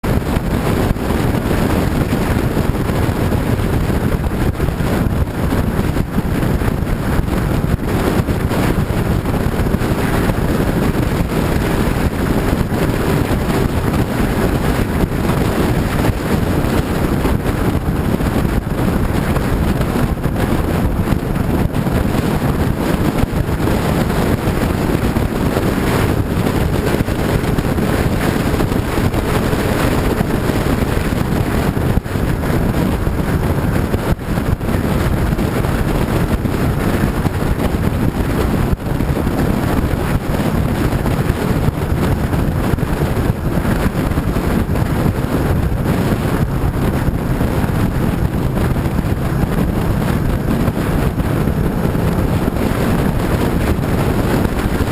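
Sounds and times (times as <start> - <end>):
low rumble: 0.0 - 54.9
wind buffeting microphone: 0.0 - 54.9.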